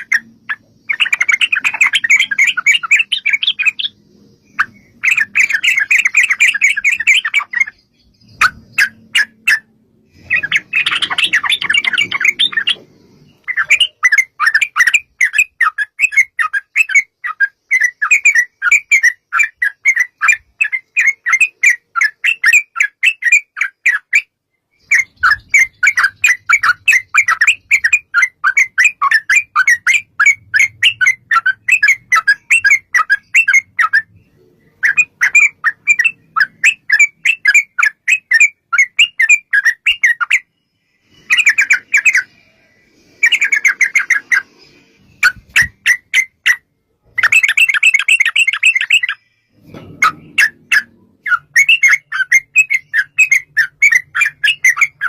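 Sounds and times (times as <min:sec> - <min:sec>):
bulbul chattering song: 0:00.0 - 0:55.0.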